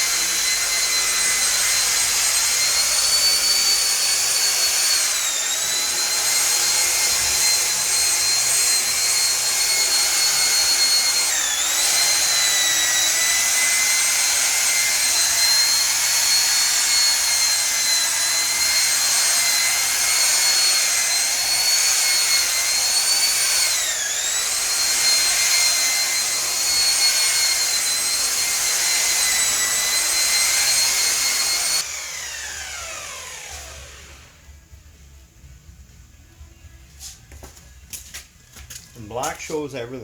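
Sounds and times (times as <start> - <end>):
electric polisher motor whine: 0.0 - 34.5.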